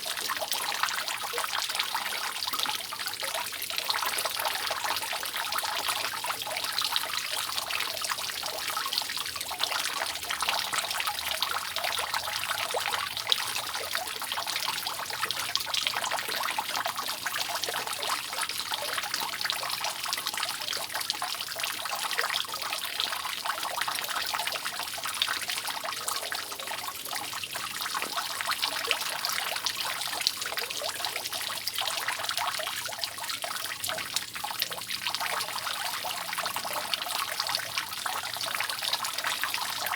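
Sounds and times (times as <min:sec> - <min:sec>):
rainwater dripping from roof: 0:00.0 - 0:39.9.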